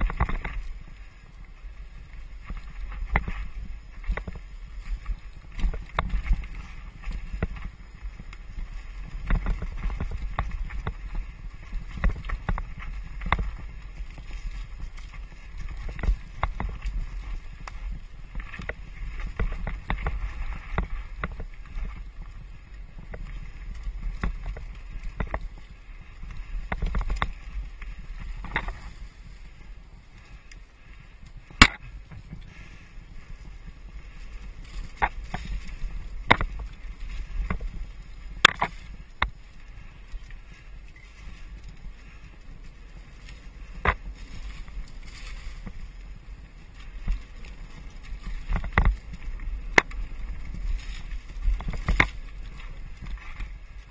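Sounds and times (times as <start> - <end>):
bike rattling and knocking: 0.0 - 1.4, 2.0 - 30.5, 31.3 - 53.9
bike rolling on rough dirt: 0.0 - 53.9.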